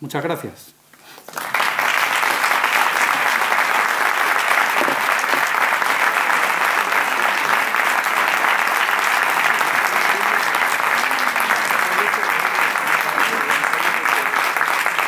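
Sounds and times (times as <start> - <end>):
audience applauding: 1.1 - 15.0.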